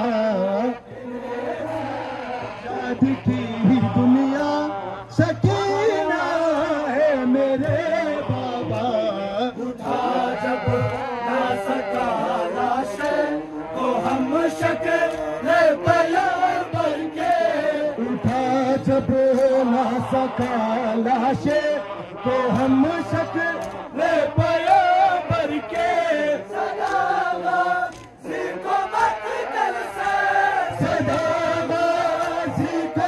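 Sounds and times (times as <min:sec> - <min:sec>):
men chanting a lament: 0:00.0 - 0:33.0.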